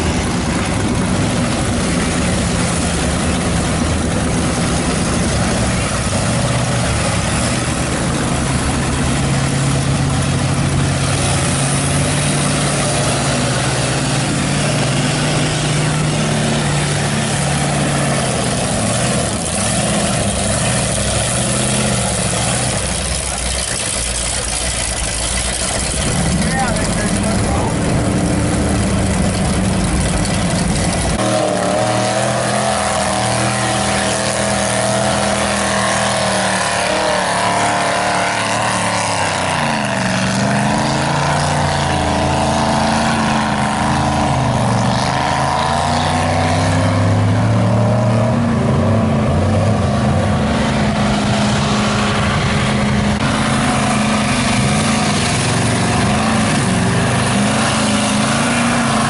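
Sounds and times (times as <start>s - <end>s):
truck engines revving: 0.0s - 59.0s.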